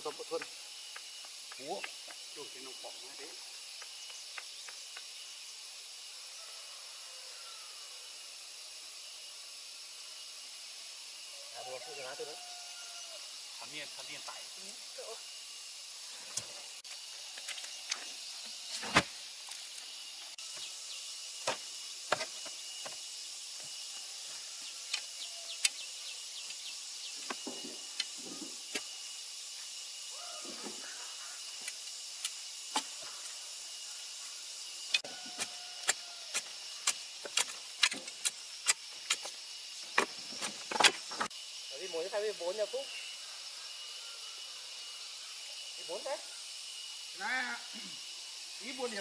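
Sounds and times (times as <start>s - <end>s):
high-pitched outdoor hiss: 0.0s - 49.0s.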